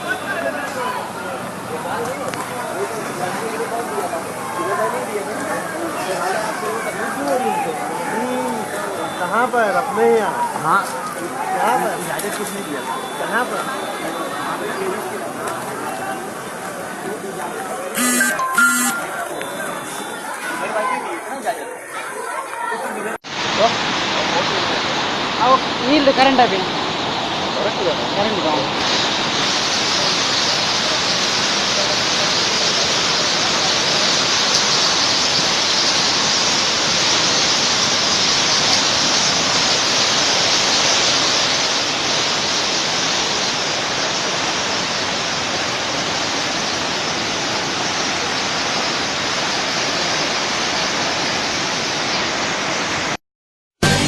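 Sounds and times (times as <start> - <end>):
water rushing: 0.0 - 53.2.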